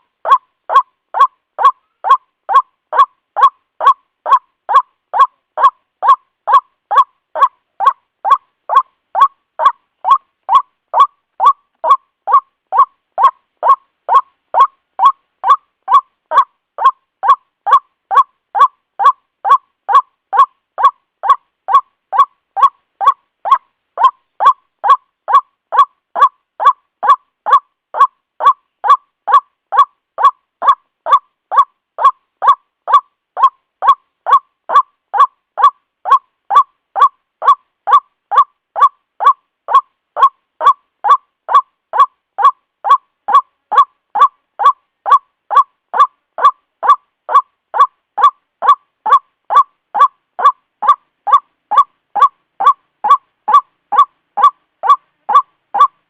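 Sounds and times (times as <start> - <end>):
waterhen calling harsh notes: 0.2 - 56.0.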